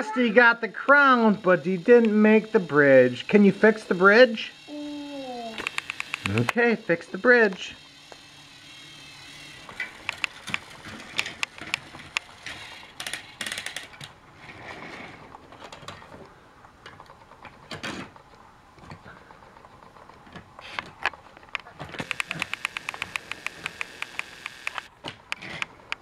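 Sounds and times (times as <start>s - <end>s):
plastic toy track clicking and rattling: 0.9s - 16.2s, 16.8s - 26.0s.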